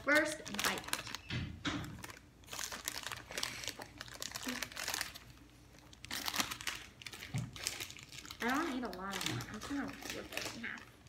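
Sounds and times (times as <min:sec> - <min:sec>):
plastic snack bag crinkling: 0:00.0 - 0:11.0.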